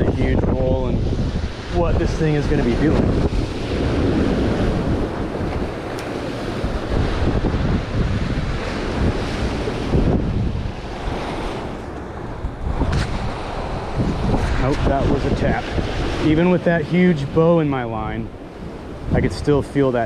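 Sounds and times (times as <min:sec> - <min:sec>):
ocean surf breaking on rocks: 0:00.0 - 0:20.0
wind buffeting microphone: 0:00.0 - 0:20.0.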